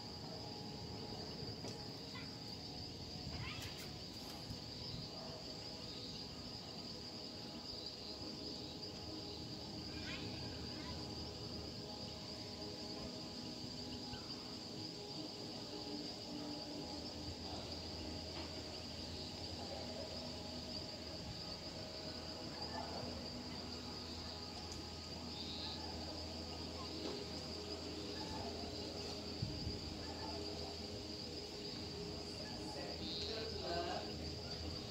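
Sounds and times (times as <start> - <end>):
crickets chirring: 0.0 - 34.9.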